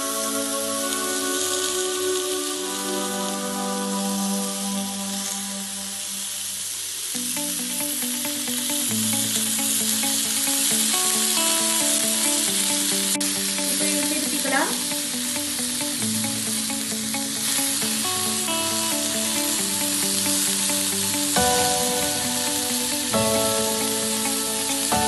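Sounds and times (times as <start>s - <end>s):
background music: 0.0s - 25.0s
skewers sizzling in oil: 0.0s - 25.0s.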